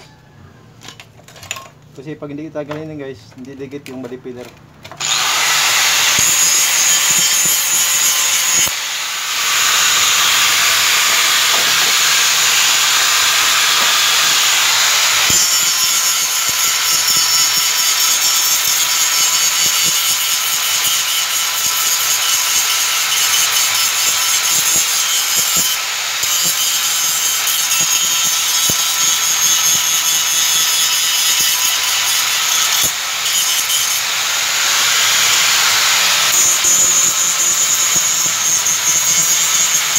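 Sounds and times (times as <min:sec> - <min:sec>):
angle grinder grinding metal: 0:05.0 - 0:39.9.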